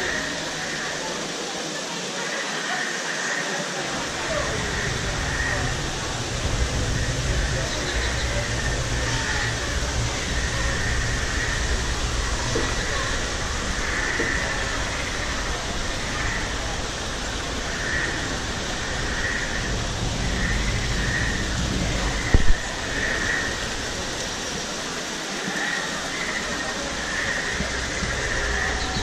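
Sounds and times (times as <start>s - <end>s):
crowd murmur: 0.0s - 29.0s
steady rushing wash: 0.0s - 29.0s.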